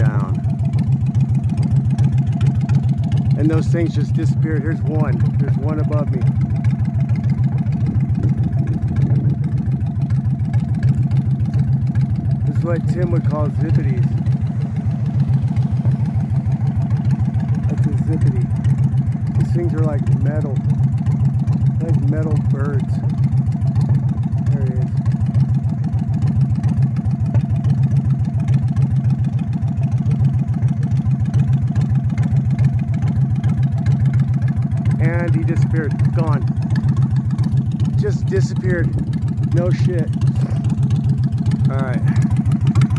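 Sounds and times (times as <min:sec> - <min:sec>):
motor running steadily: 0:00.0 - 0:42.9.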